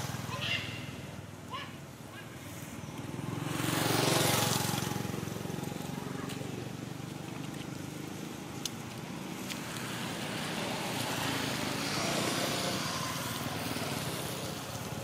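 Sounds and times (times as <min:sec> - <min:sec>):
vehicle engine passing by: 0:02.5 - 0:15.0.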